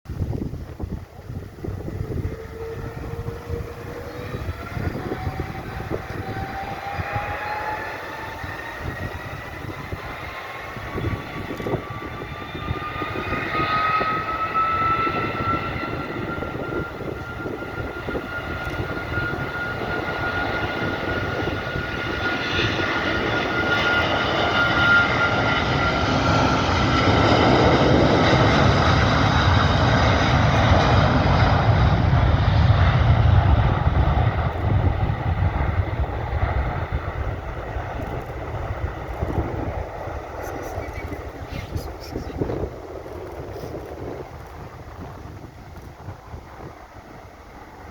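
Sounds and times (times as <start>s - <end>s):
jet engine rumble: 0.0s - 47.9s
jet engine whine climbing: 0.1s - 47.9s.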